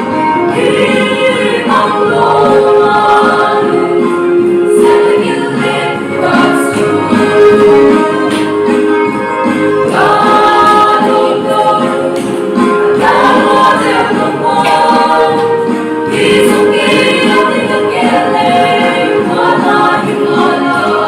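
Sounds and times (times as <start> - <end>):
mixed choir singing a hymn: 0.4 - 8.8, 9.8 - 21.0.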